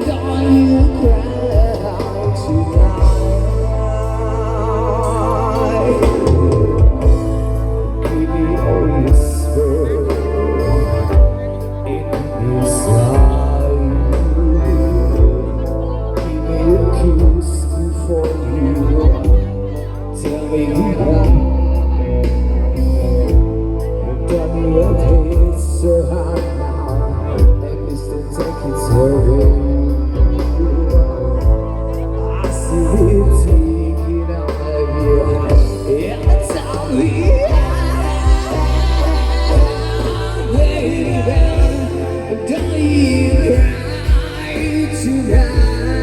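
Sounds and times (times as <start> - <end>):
bass line: 0.0 - 46.0
live pop band playing: 0.0 - 46.0
person singing: 0.0 - 46.0.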